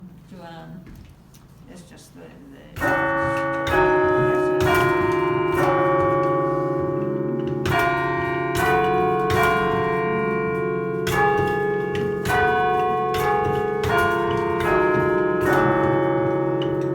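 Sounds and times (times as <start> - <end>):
church bells chiming: 2.8 - 16.9.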